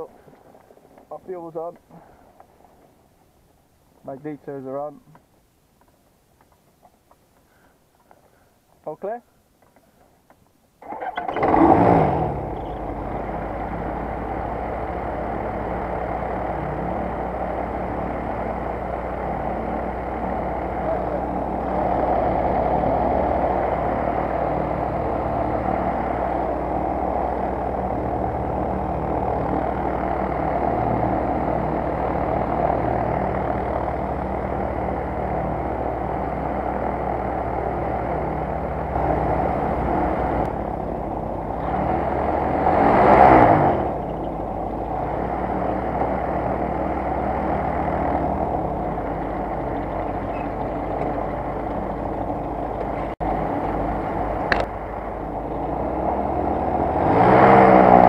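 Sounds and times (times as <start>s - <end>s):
microlight engine running: 10.8s - 58.0s.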